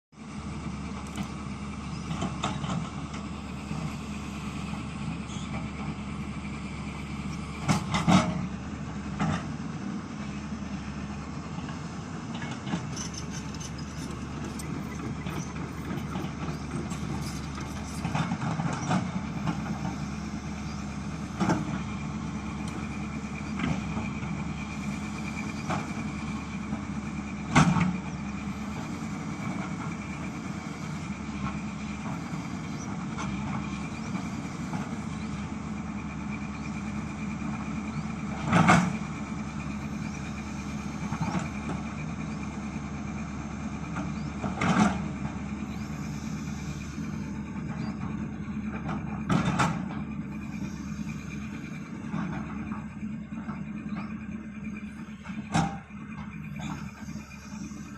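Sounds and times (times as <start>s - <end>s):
excavator diesel engine running: 0.2s - 57.9s.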